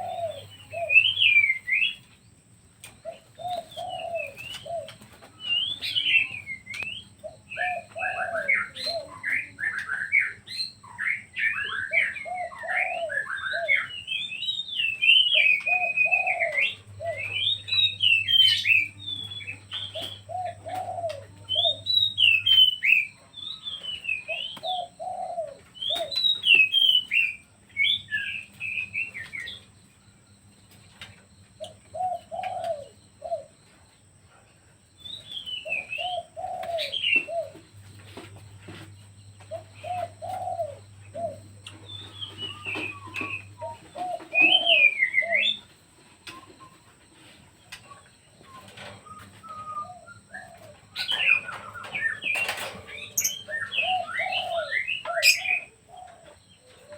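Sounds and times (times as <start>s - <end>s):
birds calling low rounded notes: 0.0s - 34.1s, 34.8s - 56.9s.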